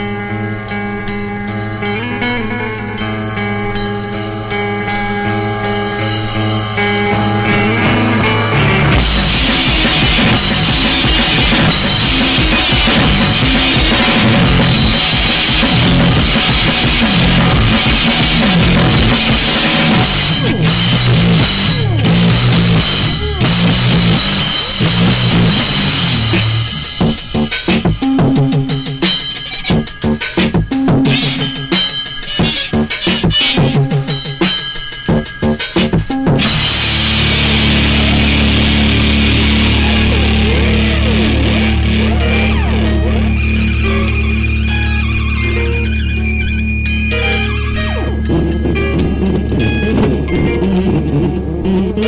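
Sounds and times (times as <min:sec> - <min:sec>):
drums: 0:00.0 - 0:52.0
loud rock band playing: 0:00.0 - 0:52.0
ringing guitar chords: 0:00.0 - 0:52.0.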